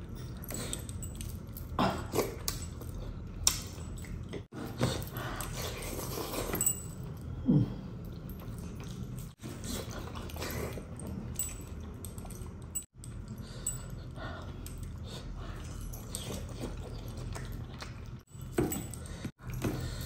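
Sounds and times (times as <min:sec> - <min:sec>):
chewing and smacking: 0:00.0 - 0:07.2, 0:08.0 - 0:20.0.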